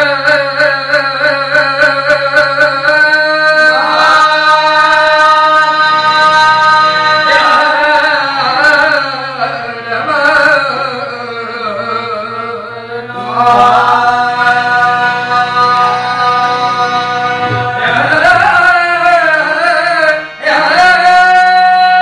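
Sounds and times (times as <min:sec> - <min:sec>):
harmonium chords: 0:00.0 - 0:22.0
men singing: 0:00.0 - 0:22.0.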